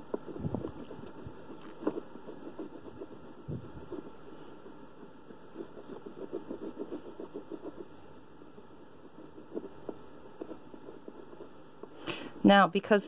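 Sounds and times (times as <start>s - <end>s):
wax crayon rubbing on clay: 0.0s - 12.7s.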